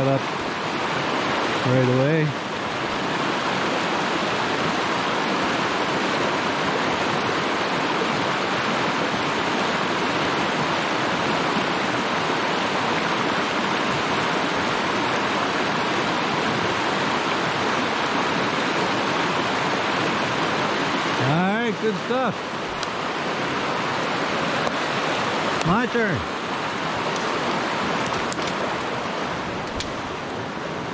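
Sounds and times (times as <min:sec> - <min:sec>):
creek rushing over rocks: 0:00.0 - 0:30.9.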